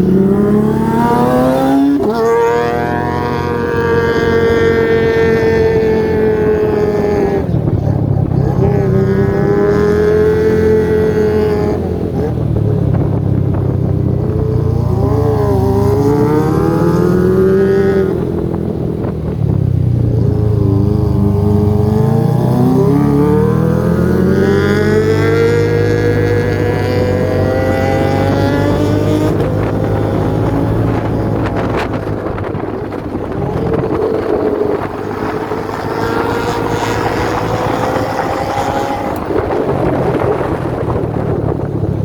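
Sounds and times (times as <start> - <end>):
motorcycle engine revving high: 0.0 - 42.0.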